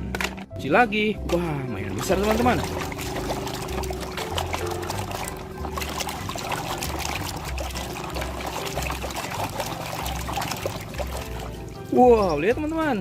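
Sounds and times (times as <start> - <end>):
water trickling and splashing: 1.3 - 13.0.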